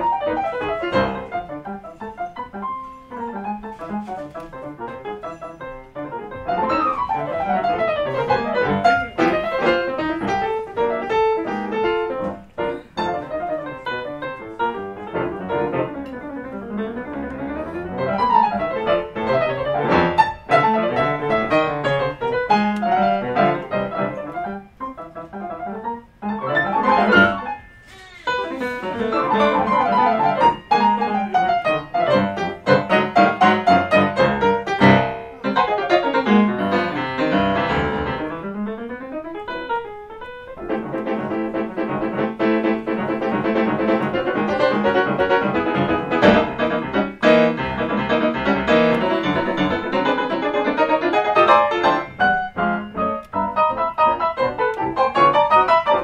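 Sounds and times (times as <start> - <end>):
two pianos playing jazz: 0.0 - 56.0.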